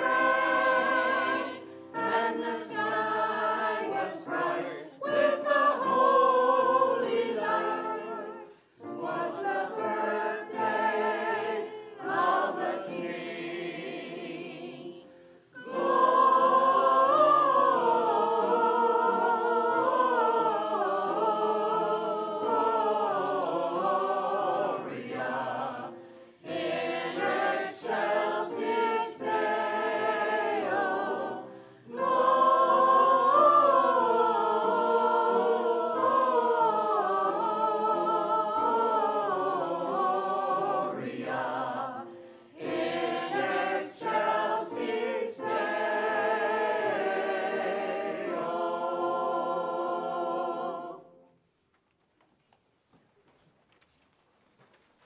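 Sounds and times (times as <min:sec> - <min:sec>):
choir singing in parts: 0:00.0 - 0:51.4.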